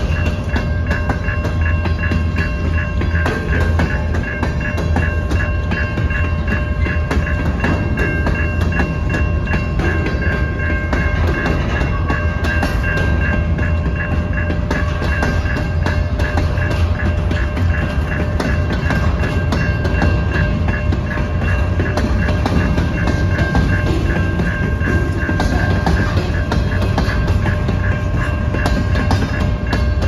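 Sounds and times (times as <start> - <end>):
crossing bell ringing: 0.0 - 30.0
freight train rumbling past: 0.0 - 30.0
wheels clicking over rail joints: 0.0 - 30.0.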